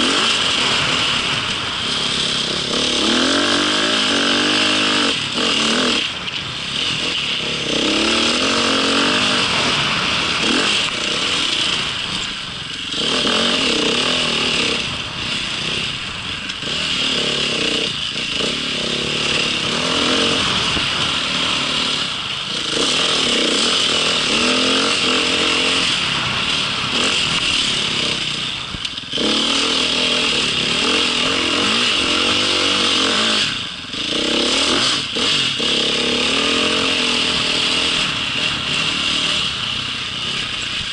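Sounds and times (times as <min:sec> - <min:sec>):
small engine revving: 0:00.0 - 0:40.9.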